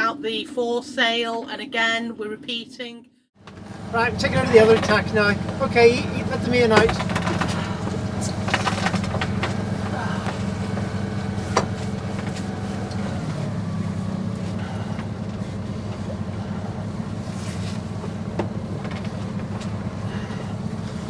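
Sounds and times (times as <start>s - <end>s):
low engine drone: 3.4s - 21.0s
water rushing along hull: 3.5s - 21.0s.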